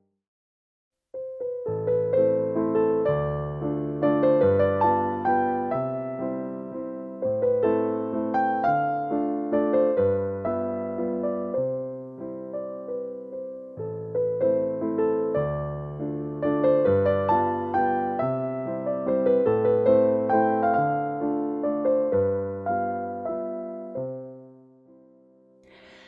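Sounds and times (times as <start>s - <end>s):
gentle solo piano piece: 1.2s - 26.0s.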